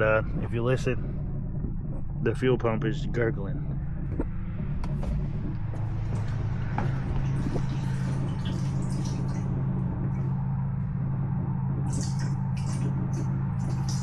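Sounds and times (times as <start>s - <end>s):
fuel gurgling and sputtering: 0.0s - 14.0s
fuel pump humming: 0.0s - 14.0s.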